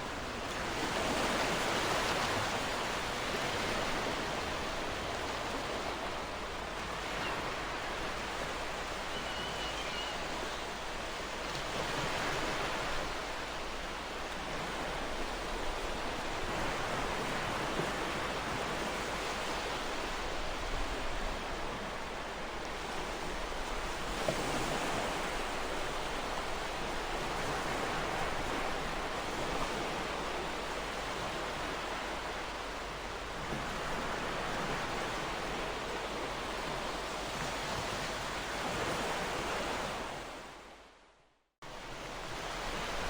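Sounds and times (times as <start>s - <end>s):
ocean surf on shore: 0.0s - 40.7s, 41.6s - 43.0s.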